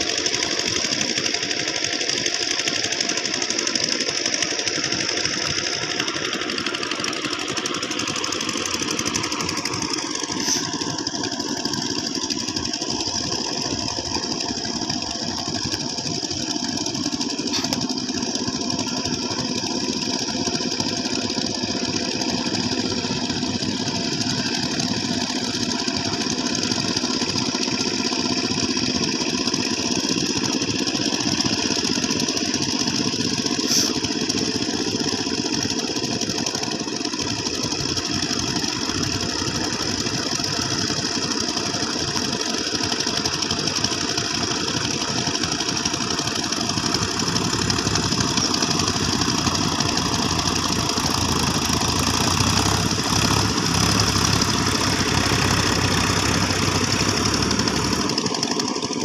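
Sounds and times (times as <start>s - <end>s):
power tiller engine running: 0.0s - 59.0s.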